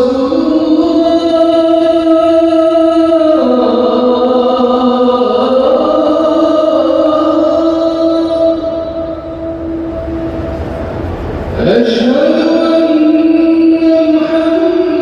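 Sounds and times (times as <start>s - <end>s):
solo voice chanting: 0.0s - 10.2s, 11.6s - 15.0s.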